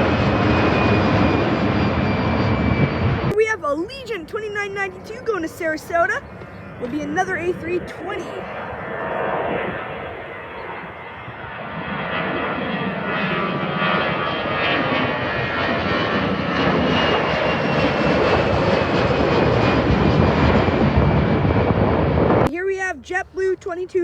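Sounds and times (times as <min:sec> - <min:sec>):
jet engines rushing: 0:00.0 - 0:23.5.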